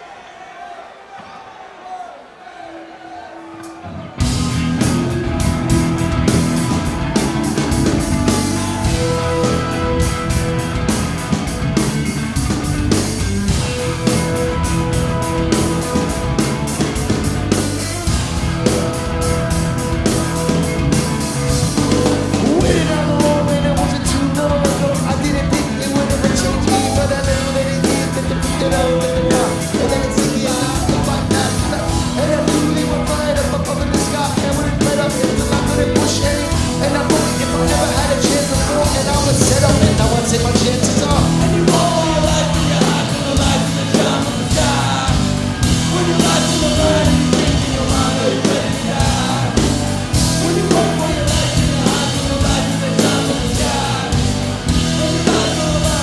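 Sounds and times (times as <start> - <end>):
electric guitar: 3.7 - 56.0
drum-kit beat: 3.8 - 56.0
bass: 4.1 - 56.0.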